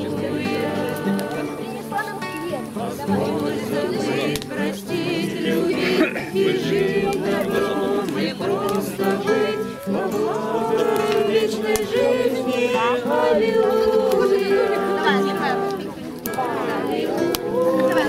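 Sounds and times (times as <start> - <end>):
acoustic guitars strummed: 0.0 - 18.0
group singing: 0.0 - 18.0.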